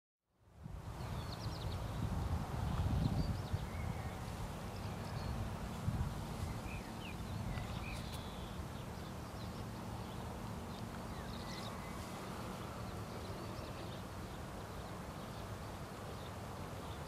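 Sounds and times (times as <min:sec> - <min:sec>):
wind rumble on microphone: 0:00.5 - 0:17.0
birds chirping: 0:01.0 - 0:17.0.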